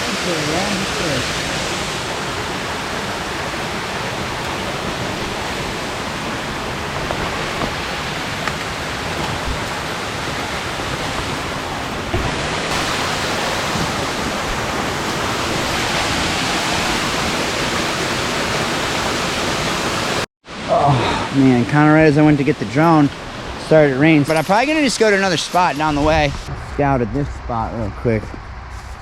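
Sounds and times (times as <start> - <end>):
stream water rushing: 0.0 - 26.4.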